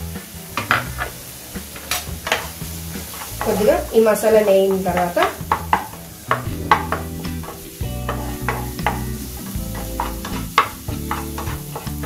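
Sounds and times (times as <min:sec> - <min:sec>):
food sizzling in oil: 0:00.0 - 0:12.0
spatula scraping a frying pan: 0:00.6 - 0:12.0.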